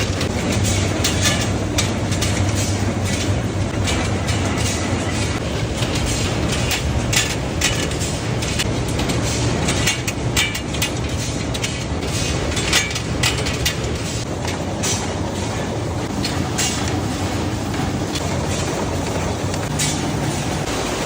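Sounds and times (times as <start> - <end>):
factory machinery humming: 0.0 - 21.0
machine clacks and knocks: 0.0 - 21.0.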